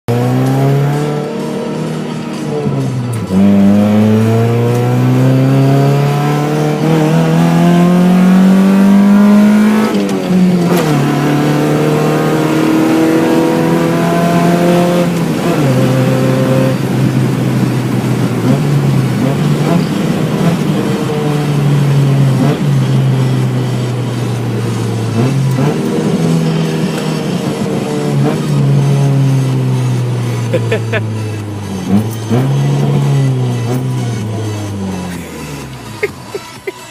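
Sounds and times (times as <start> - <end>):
loud car engine accelerating: 0.0 - 36.9.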